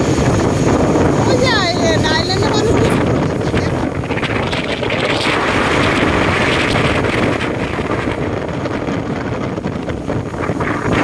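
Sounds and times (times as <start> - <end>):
motorboat engine: 0.0 - 11.0
water rushing: 0.0 - 11.0
wind buffeting microphone: 0.0 - 11.0.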